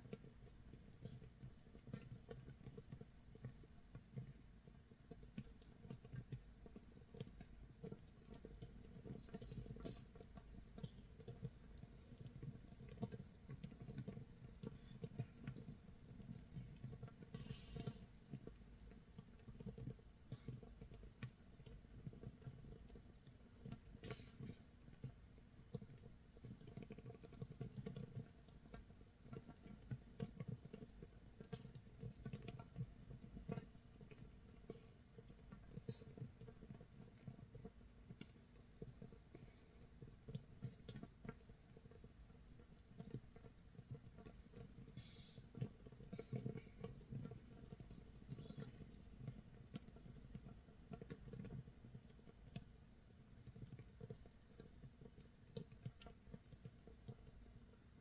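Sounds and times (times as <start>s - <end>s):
crackle of bubbles bursting: 0.0s - 58.0s.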